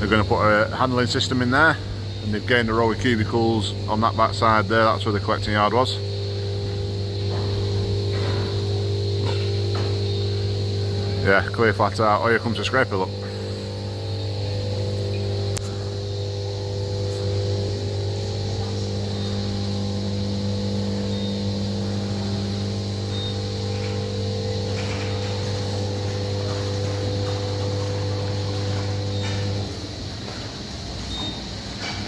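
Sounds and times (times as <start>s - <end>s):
robotic scraper electric hum: 0.0s - 32.0s.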